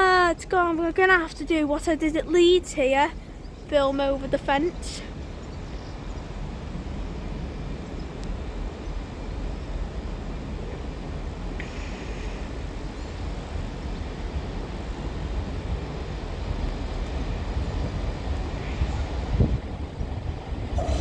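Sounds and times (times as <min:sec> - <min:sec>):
diesel train rumbling: 0:00.0 - 0:21.0
station background noise: 0:00.0 - 0:21.0.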